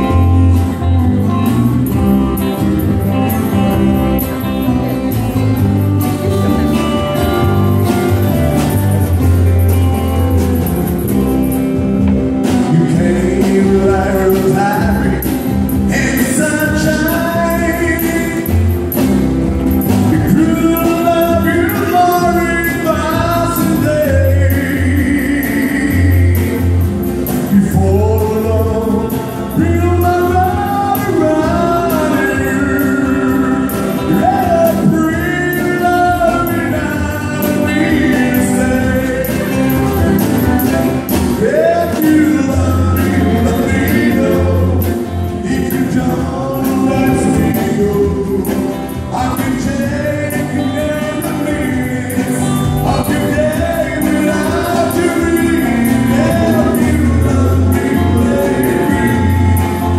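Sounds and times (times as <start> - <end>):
bass guitar: 0.0 - 59.9
man singing lead: 0.0 - 59.9
steady drum beat: 0.0 - 59.9
strummed acoustic guitars: 0.0 - 59.9.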